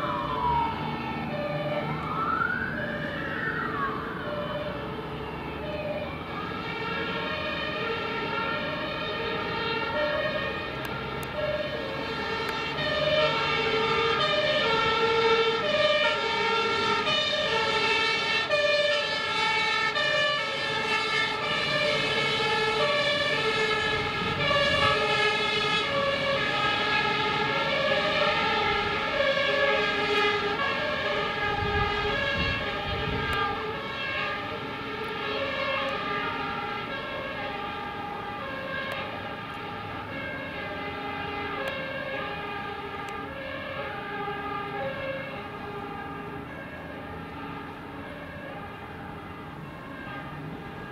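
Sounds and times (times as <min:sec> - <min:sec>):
two-tone sirens: 0:00.0 - 0:50.9.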